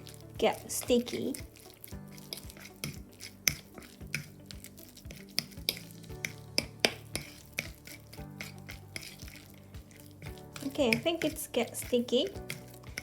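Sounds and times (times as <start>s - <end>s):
wet clicks of mixing meat: 0.0s - 13.0s.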